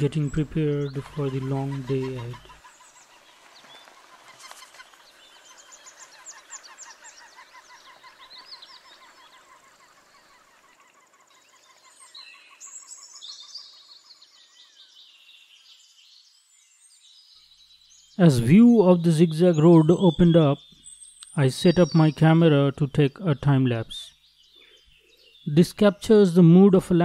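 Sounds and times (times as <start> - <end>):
birds chirping and trilling: 0.0 - 27.0.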